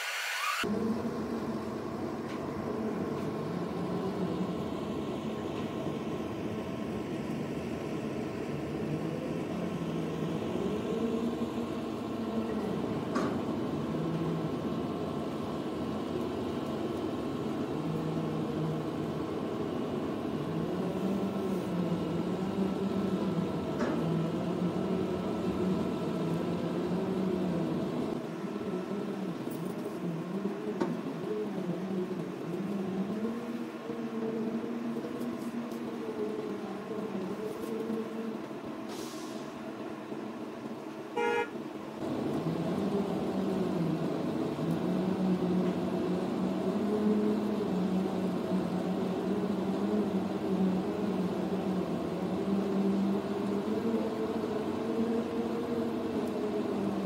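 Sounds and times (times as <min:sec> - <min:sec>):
machine engines droning: 0:00.0 - 0:57.0.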